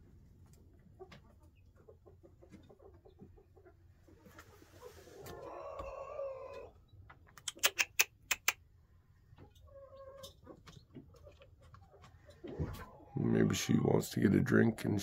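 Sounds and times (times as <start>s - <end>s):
chickens clucking: 0.4s - 15.0s.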